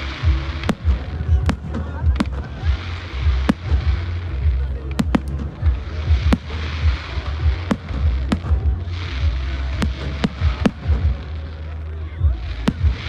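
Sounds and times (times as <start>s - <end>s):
continuous low rumble: 0.0s - 13.0s
fireworks bursting: 0.0s - 13.0s.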